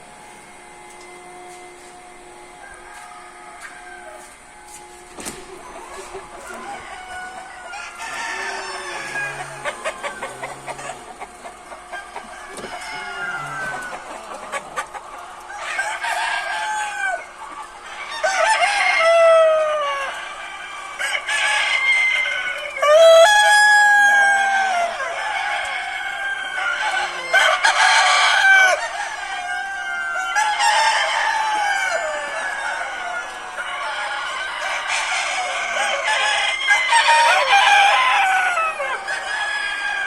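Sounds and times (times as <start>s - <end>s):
roosters crowing: 0.0s - 40.0s.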